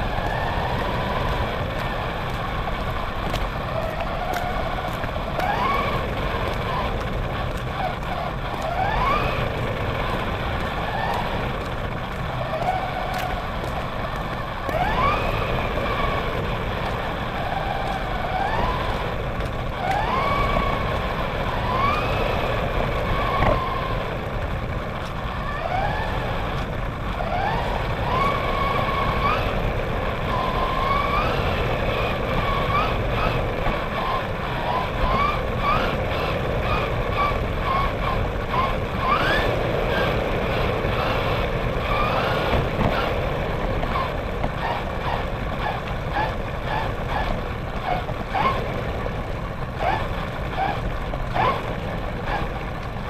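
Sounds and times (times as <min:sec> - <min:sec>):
rc car motor whine: 0:00.0 - 0:53.0
tyres rumbling on road: 0:00.0 - 0:53.0.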